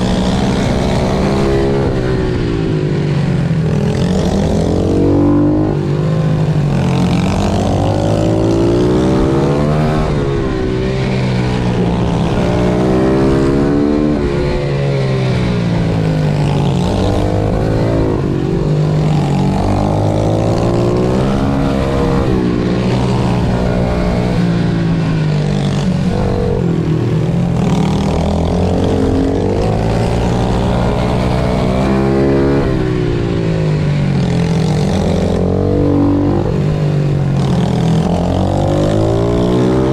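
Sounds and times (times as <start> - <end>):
motorbike engine racing: 0.0 - 39.9.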